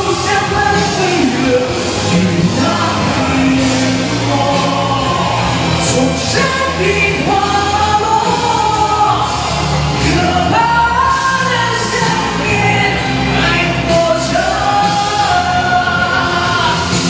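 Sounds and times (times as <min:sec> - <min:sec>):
man singing into a microphone: 0:00.0 - 0:17.0
pop backing music: 0:00.0 - 0:17.0.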